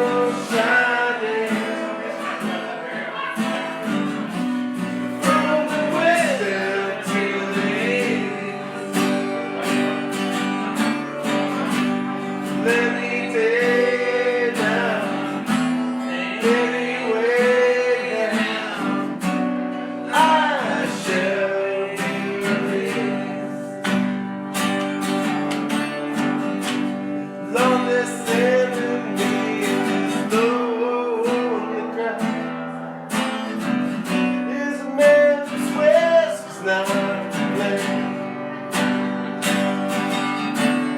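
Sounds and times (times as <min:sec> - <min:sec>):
acoustic guitar strumming: 0:00.0 - 0:40.9.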